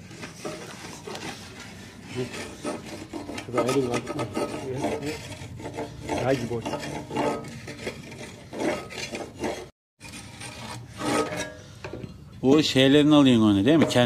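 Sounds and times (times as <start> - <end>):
blade scraping wooden handle: 0.0 - 12.0.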